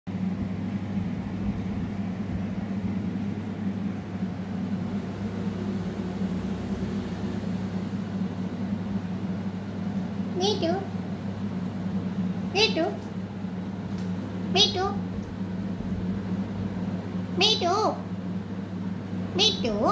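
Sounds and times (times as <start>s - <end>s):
steady low hum: 0.1s - 19.9s.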